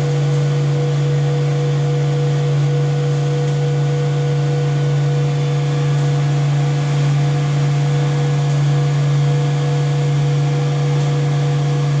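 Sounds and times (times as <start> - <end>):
pump humming: 0.0 - 12.0.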